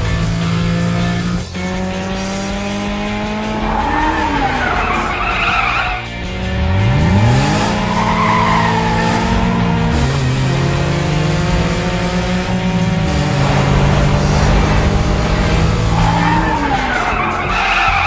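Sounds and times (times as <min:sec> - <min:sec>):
background music: 0:00.0 - 0:18.0
engine revving up: 0:00.0 - 0:18.0
cartoon tyre screech: 0:02.5 - 0:18.0.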